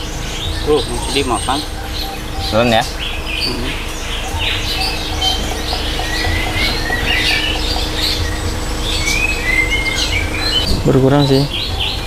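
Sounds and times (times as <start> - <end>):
birds chirping and calling: 0.0 - 12.0
steady low hum: 0.0 - 12.0.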